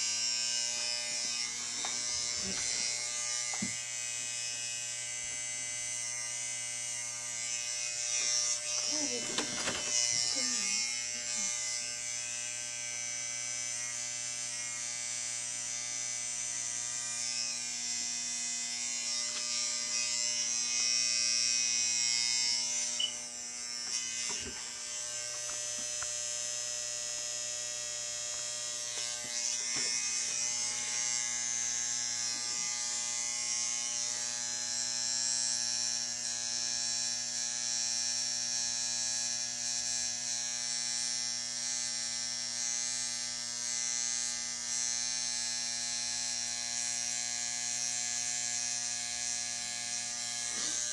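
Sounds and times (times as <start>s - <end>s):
electric hair clippers buzzing: 0.0s - 50.9s.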